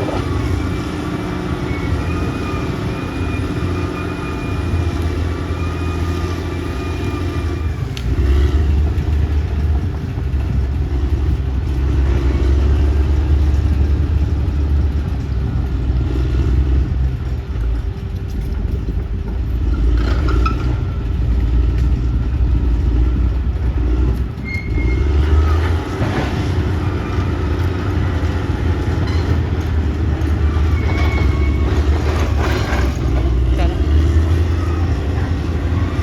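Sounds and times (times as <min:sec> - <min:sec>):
bulldozer diesel engine running: 0:00.0 - 0:36.0
steel tracks squeaking and clanking: 0:00.0 - 0:36.0.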